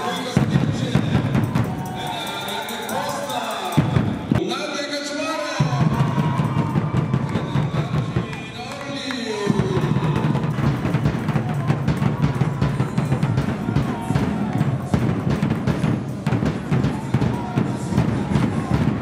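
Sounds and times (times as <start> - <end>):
music with fast drum beat: 0.0 - 4.4, 5.6 - 8.5, 9.5 - 19.0.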